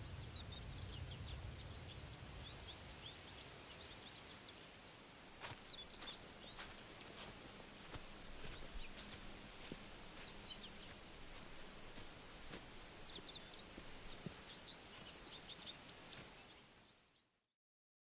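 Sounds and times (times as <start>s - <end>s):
small birds chirping: 0.0s - 17.4s.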